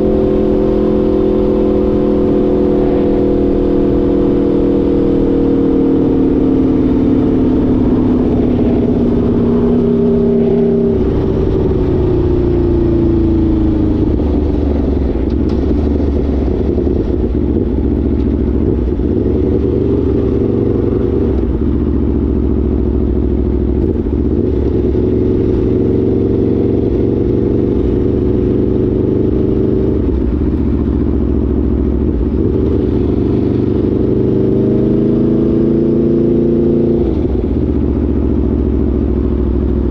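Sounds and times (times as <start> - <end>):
motorcycle engine revving loudly: 0.0 - 39.9.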